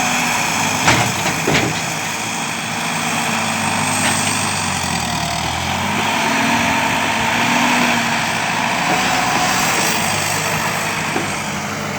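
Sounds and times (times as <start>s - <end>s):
loader engine running: 0.0s - 11.9s.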